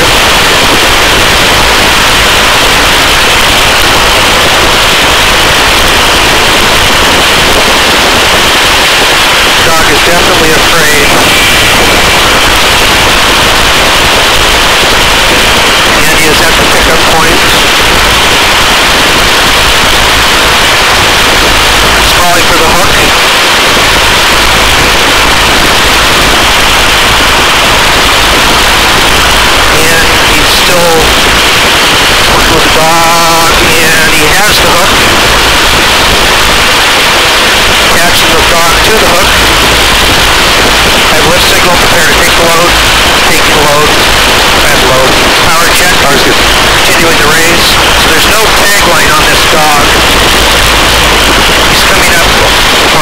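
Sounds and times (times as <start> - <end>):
helicopter rotor wash: 0.0 - 53.0
wind on microphone: 0.0 - 53.0.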